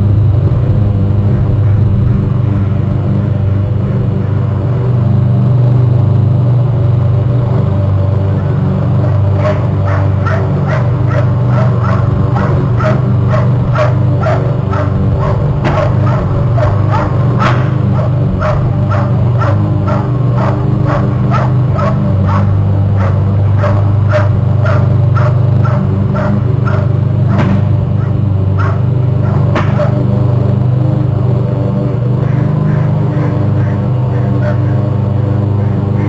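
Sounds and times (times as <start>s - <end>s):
animal barking: 0.0s - 5.6s, 7.2s - 36.0s
steady low hum: 0.0s - 36.0s.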